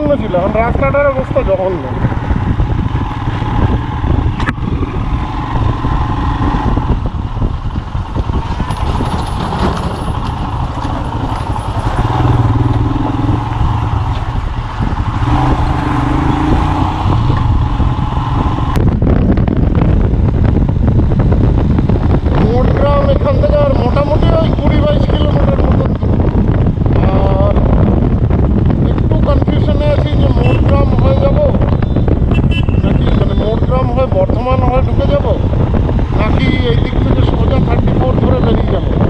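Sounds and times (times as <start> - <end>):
motorcycle engine revving: 0.0 - 39.0
road and wind rumble: 0.0 - 39.0.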